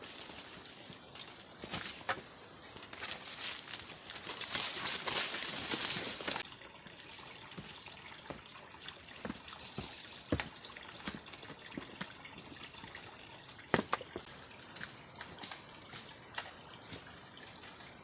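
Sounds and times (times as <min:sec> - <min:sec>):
water trickling and dripping: 0:00.1 - 0:02.1, 0:02.8 - 0:18.0.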